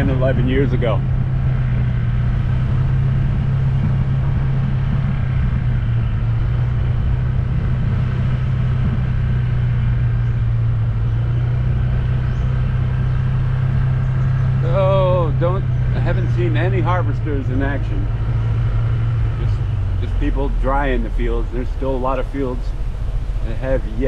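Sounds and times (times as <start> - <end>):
low engine hum: 0.0 - 24.0
road noise: 0.0 - 24.0.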